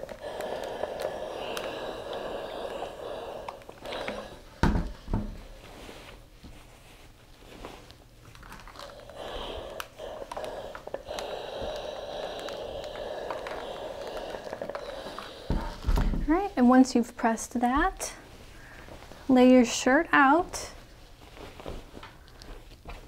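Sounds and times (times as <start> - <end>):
steam iron rustling over fabric: 0.0 - 23.0.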